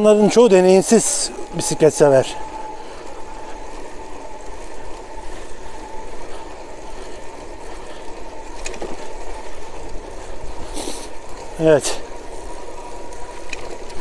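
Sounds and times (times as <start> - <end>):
wind and road noise: 0.0 - 14.0
electric motor whine: 0.9 - 14.0.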